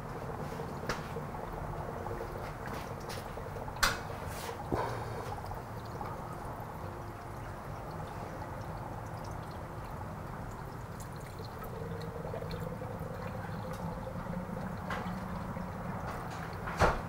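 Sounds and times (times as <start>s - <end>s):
faint hum: 0.0s - 17.0s
water pouring and trickling: 0.0s - 17.0s.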